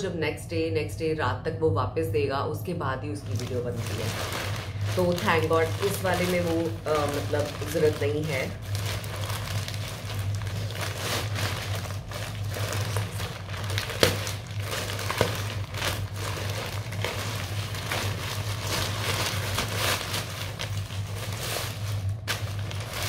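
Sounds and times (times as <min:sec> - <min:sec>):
plastic bag crinkling: 0:03.1 - 0:23.0.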